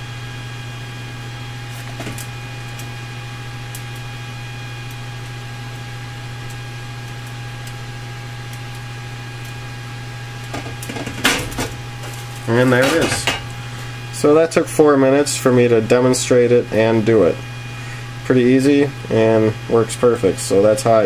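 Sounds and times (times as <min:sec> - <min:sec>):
electrical hum with whine: 0:00.0 - 0:21.0.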